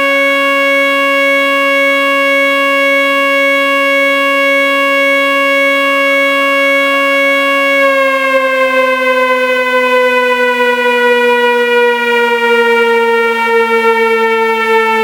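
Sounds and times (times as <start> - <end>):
electronic warning siren: 0.0 - 15.0.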